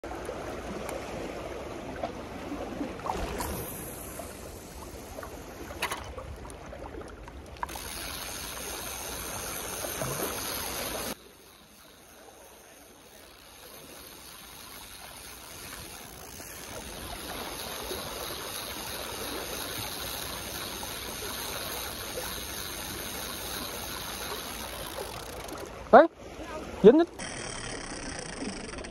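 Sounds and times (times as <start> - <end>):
water splashing against embankment: 0.0 - 28.9.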